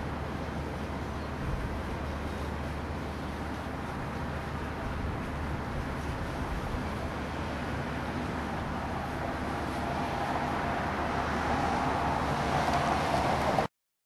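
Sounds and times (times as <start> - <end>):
distant traffic hum: 0.0 - 13.7
vehicle hum: 0.0 - 13.7.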